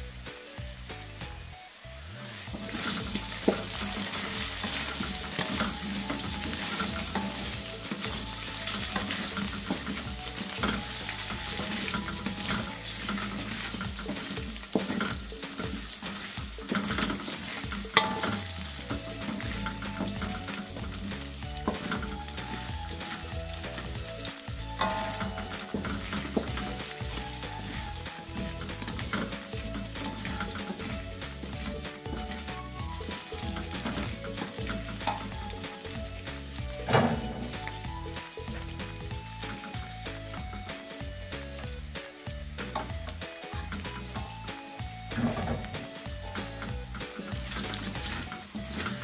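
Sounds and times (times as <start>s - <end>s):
potatoes sizzling in oil: 0.0s - 49.0s
spatula scraping and knocking wok: 2.5s - 49.0s.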